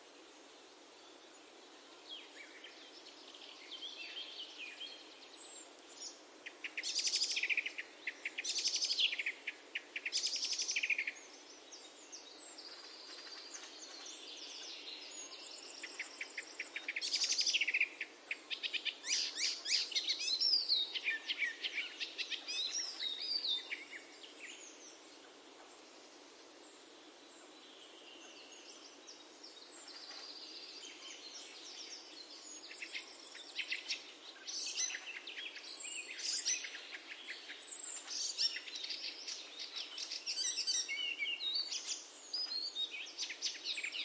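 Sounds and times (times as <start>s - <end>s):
faint outdoor hiss: 0.0s - 44.0s
songbirds trilling: 0.2s - 44.0s.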